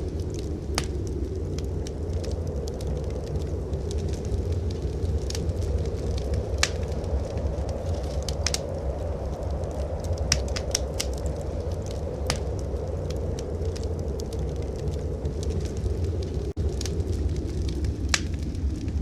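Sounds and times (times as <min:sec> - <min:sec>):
blizzard wind rumbling: 0:00.0 - 0:19.0
wood fire crackling: 0:00.0 - 0:19.0.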